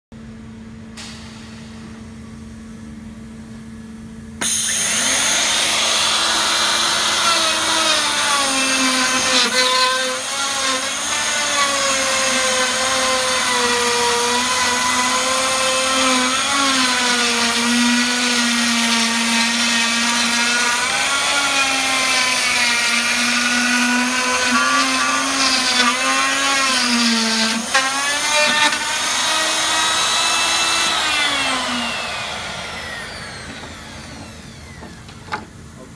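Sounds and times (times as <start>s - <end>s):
router motor whining: 4.4s - 35.4s.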